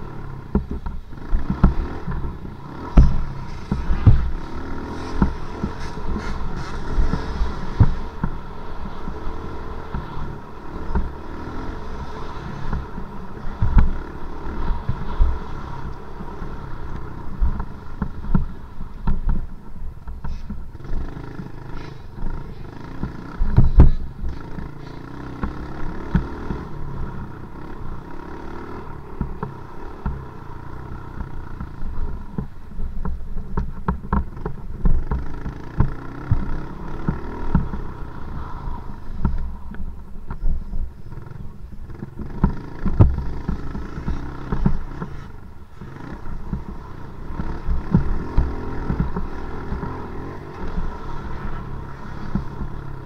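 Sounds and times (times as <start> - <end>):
dirt bike engine revving: 0.0 - 19.5, 20.1 - 32.7, 33.6 - 39.7, 41.0 - 53.0
knocks and rattles over rough dirt: 0.0 - 53.0.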